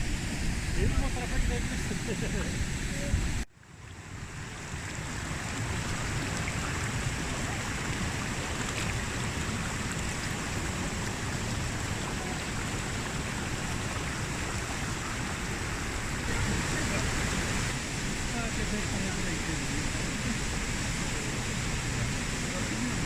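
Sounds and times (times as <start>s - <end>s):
rushing mountain stream: 0.0s - 23.0s.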